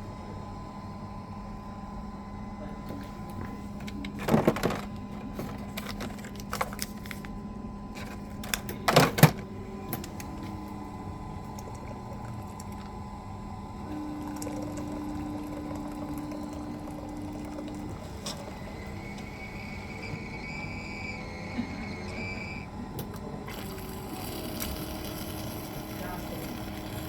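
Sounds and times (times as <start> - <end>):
coffee machine humming: 0.0 - 27.0.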